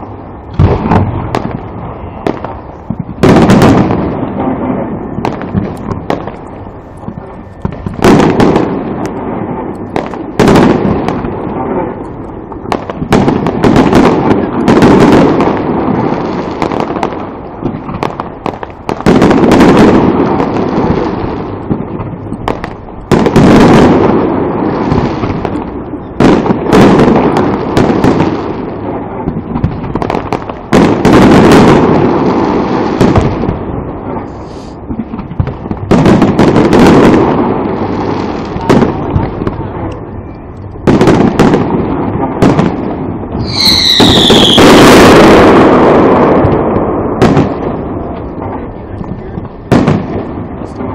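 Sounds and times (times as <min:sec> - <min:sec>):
fireworks booming: 0:00.0 - 0:50.9.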